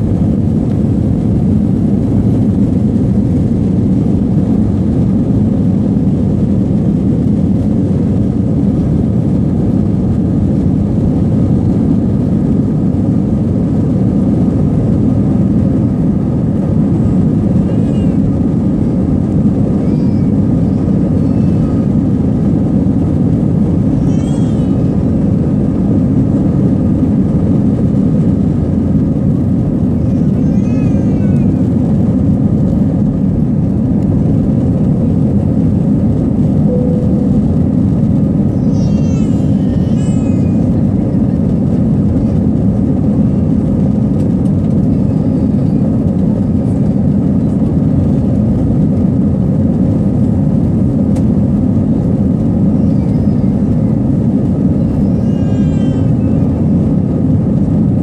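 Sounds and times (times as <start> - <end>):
jet engines deep rumble: 0.0 - 58.0.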